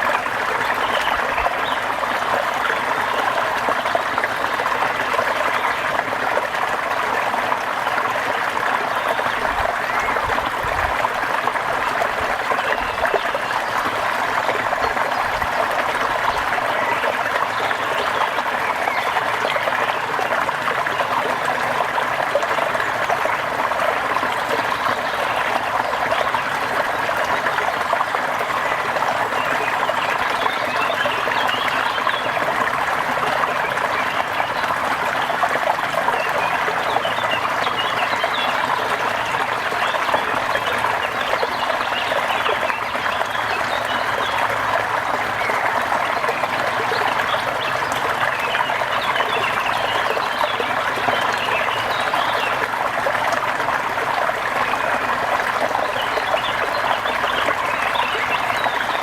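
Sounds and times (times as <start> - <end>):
trickling water: 0.0 - 59.0.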